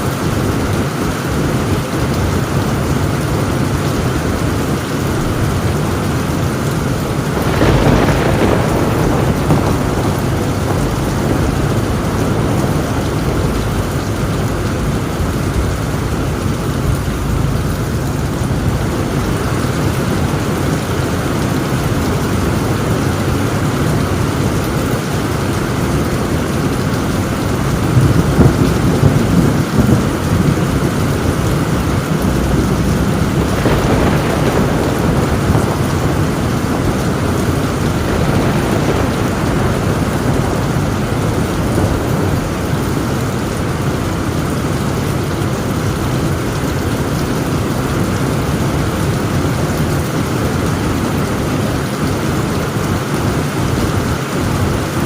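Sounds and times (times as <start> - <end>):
heavy rain on a tin roof: 0.0 - 55.0
thunder: 0.1 - 55.0.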